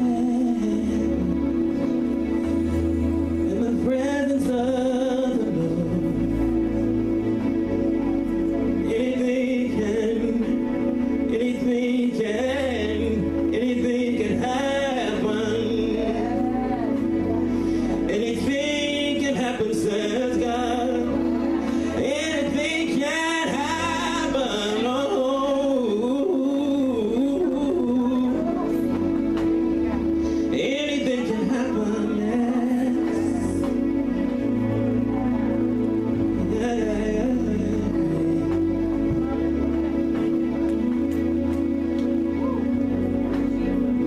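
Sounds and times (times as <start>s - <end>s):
held chords: 0.0s - 44.0s
person singing slow melody: 0.0s - 44.0s.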